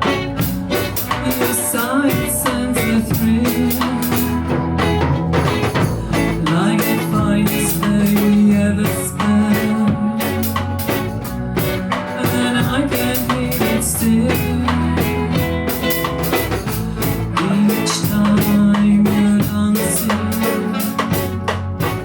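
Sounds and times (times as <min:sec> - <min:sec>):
bass line: 0:00.0 - 0:22.0
drum rimshots: 0:00.0 - 0:22.0
live reggae band: 0:00.0 - 0:22.0.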